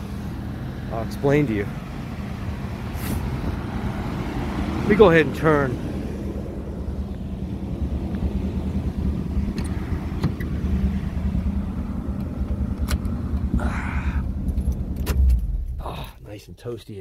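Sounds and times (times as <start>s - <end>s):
truck engine idling: 0.0s - 16.8s.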